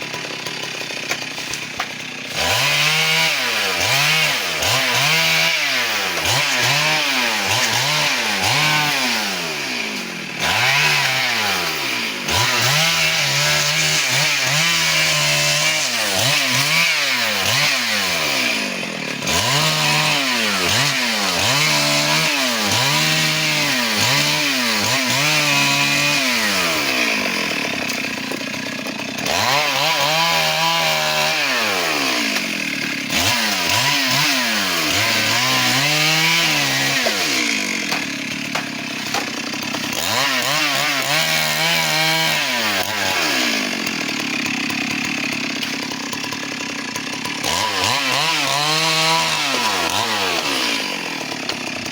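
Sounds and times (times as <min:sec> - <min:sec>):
chainsaw revving cutting wood: 0:00.0 - 0:51.9.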